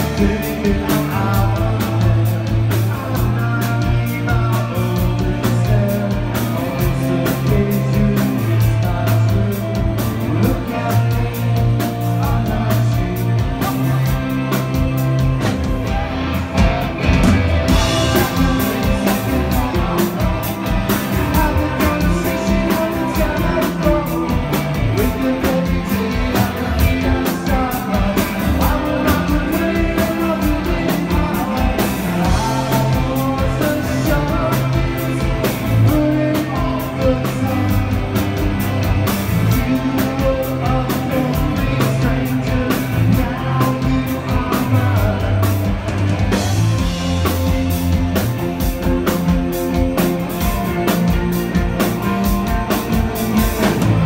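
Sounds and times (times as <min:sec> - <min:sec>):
person singing: 0:00.0 - 0:14.7, 0:15.7 - 0:38.5, 0:39.3 - 0:45.8
live rock band playing: 0:00.0 - 0:54.0.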